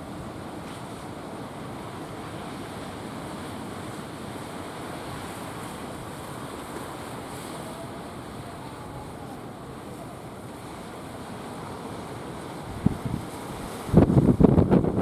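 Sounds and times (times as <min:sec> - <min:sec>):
sea waves: 0:00.0 - 0:15.0
strong wind: 0:00.0 - 0:15.0.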